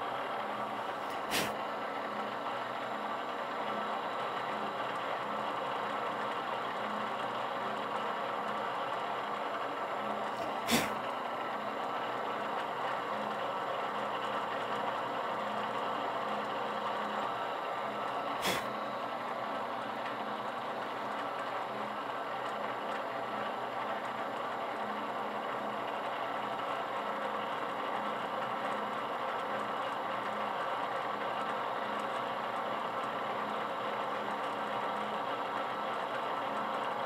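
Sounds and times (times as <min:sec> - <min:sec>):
drill press running: 0:00.0 - 0:37.0.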